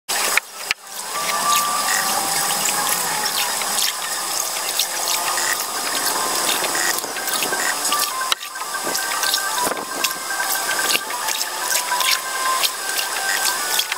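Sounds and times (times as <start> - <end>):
paddle swishing in water: 0.1 - 13.9.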